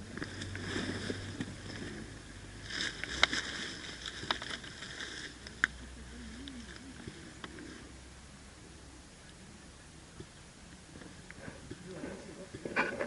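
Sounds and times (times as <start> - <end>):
rustling and shuffling: 0.0 - 8.1, 10.1 - 13.0.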